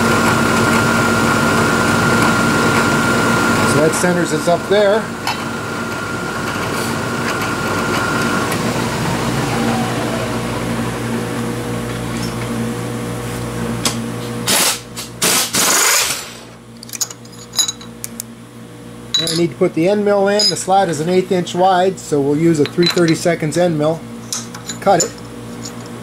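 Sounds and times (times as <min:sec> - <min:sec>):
milling machine humming: 0:00.0 - 0:26.0.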